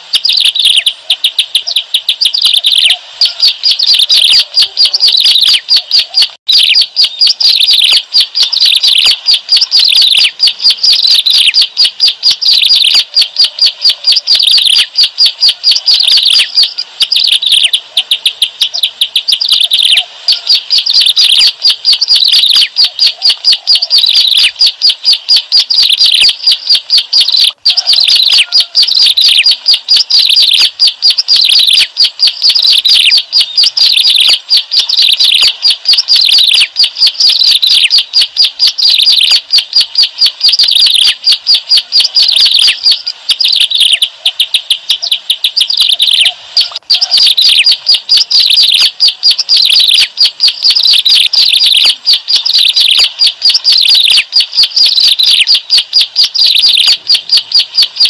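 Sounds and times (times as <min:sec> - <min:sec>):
bird singing sharp chirps: 0:00.0 - 0:58.0.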